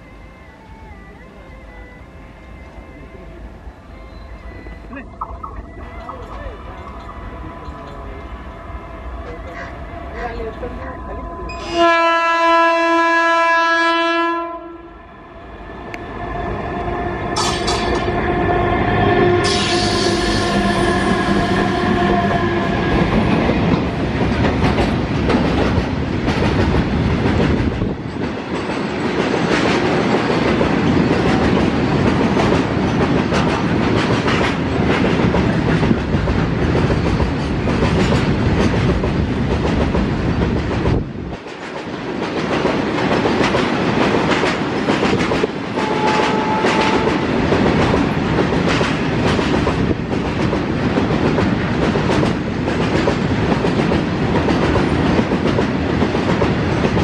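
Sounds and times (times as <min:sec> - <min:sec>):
train wheels rumbling on rail: 0:05.8 - 0:57.0.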